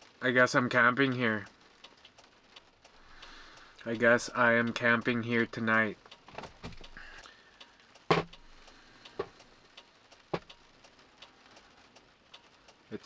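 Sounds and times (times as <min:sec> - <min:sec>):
rain drops on van roof: 0:00.0 - 0:13.0.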